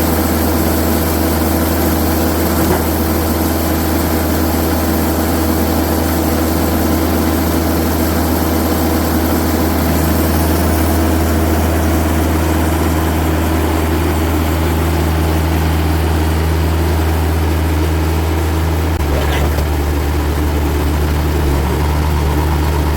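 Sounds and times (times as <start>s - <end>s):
sawmill engine humming: 0.0s - 22.9s.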